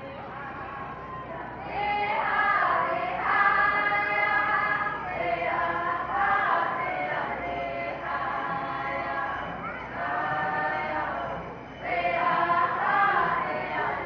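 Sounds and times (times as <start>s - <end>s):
group singing hand-drum song: 0.0s - 14.0s.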